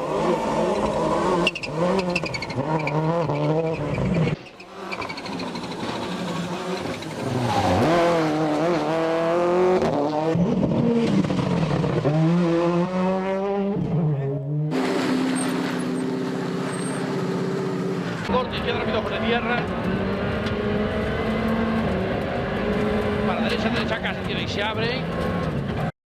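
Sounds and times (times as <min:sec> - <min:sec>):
rally car engine revving hard: 0:00.0 - 0:25.9.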